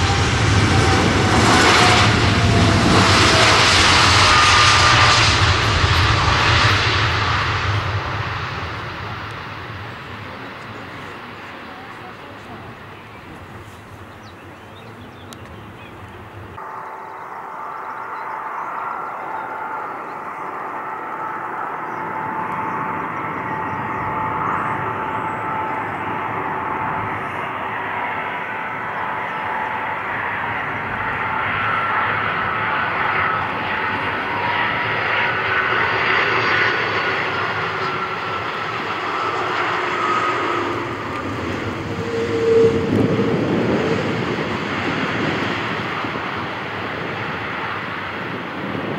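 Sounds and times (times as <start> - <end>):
deep rush of plane on runway: 0.0 - 48.9
jet airliner engines whining: 0.0 - 48.9.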